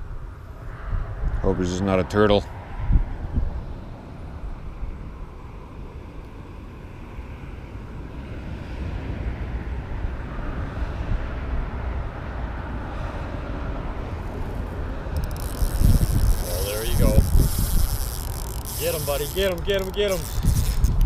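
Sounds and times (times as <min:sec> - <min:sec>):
outdoor background rumble: 0:00.0 - 0:21.0.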